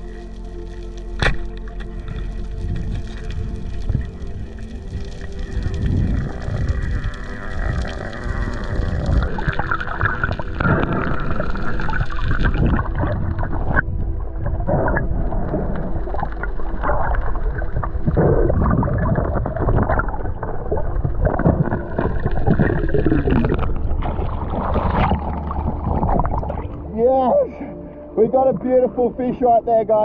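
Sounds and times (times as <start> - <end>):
underwater rumble with gurgling: 0.0 - 28.8
water splashing: 1.2 - 27.0.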